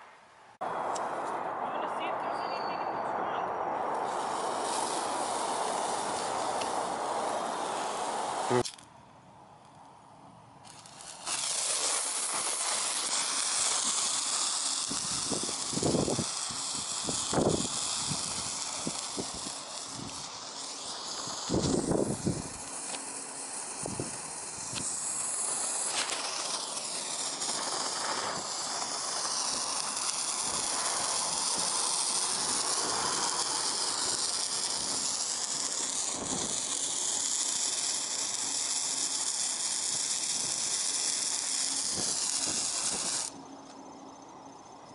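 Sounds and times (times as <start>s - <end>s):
sparkler hissing and crackling: 3.5s - 9.6s, 10.5s - 44.9s.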